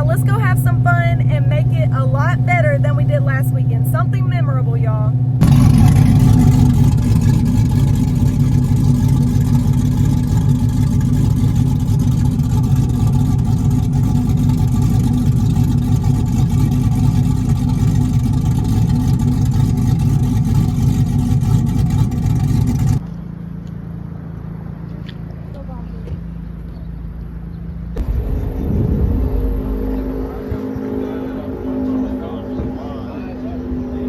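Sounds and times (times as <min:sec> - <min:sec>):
car engine running loudly: 0:00.0 - 0:23.2, 0:27.9 - 0:34.0.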